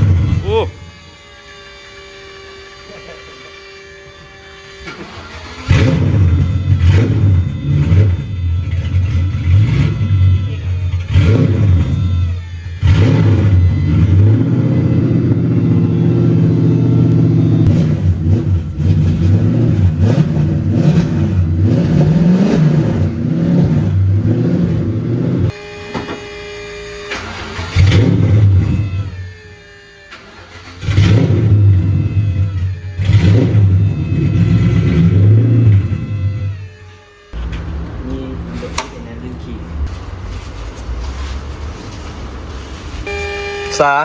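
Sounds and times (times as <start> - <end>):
engine revving: 0.0 - 44.0.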